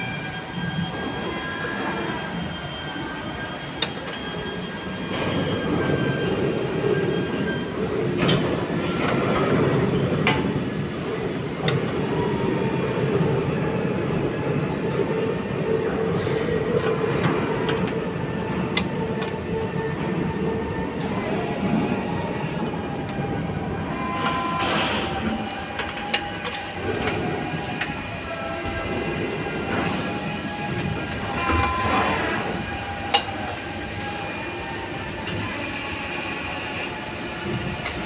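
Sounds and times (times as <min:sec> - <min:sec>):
machinery rumble: 0:00.8 - 0:38.0.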